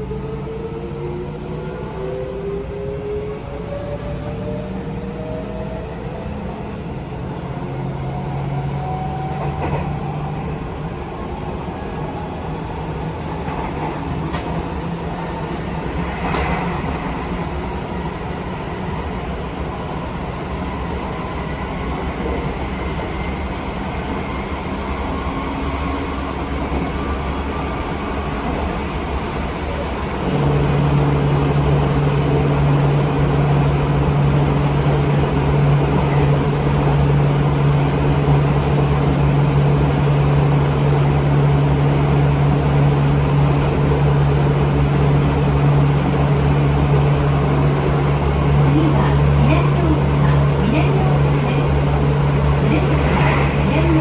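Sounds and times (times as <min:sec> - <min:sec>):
electric train motors humming: 0:00.0 - 0:54.0
wheels rumbling on rail: 0:00.0 - 0:54.0.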